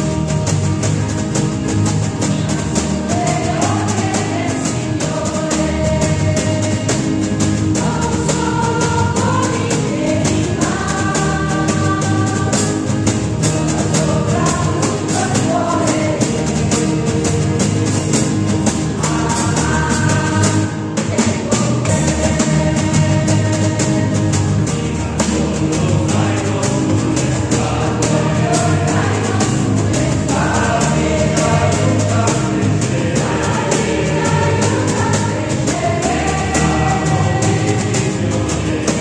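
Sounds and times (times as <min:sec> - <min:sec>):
strummed acoustic guitars: 0:00.0 - 0:39.0
choir singing a hymn: 0:02.4 - 0:39.0.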